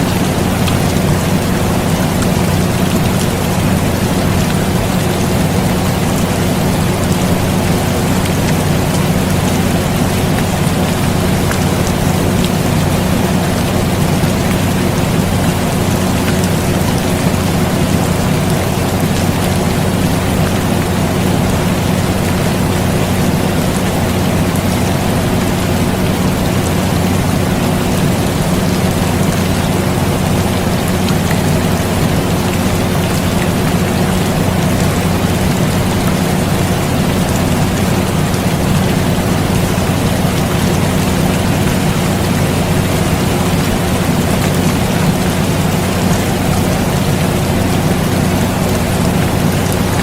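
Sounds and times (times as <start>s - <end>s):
air conditioner humming: 0.0s - 50.0s
steady rain: 0.0s - 50.0s.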